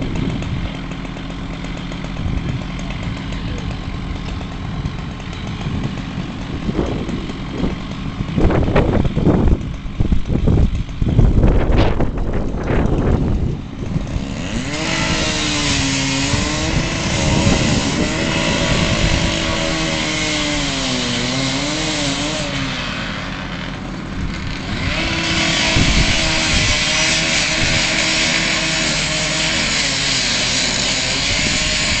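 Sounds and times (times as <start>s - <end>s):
power saw motor: 0.0s - 32.0s.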